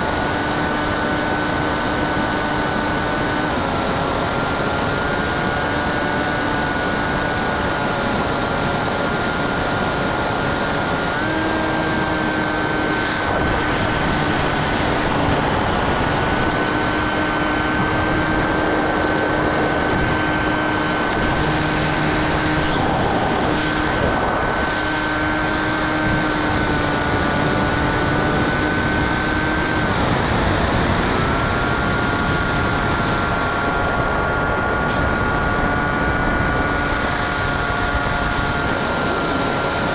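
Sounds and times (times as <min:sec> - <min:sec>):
electric motor high whine: 0:00.0 - 0:39.9
wind rush: 0:00.0 - 0:39.9.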